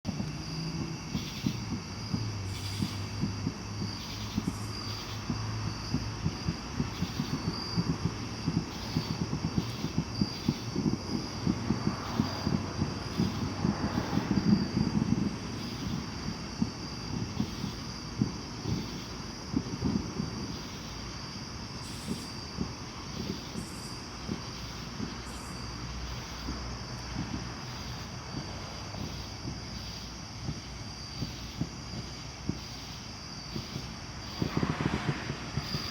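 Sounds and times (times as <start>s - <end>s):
faint high whine: 0.1s - 35.9s.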